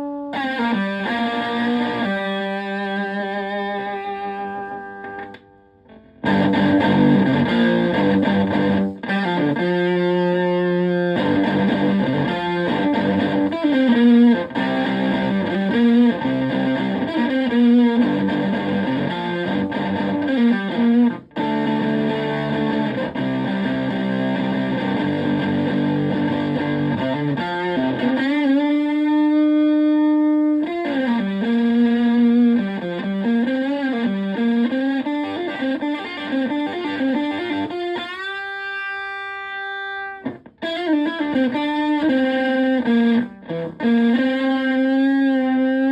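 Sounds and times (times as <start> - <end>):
fuzz-distorted electric guitar lead: 0.0 - 45.9.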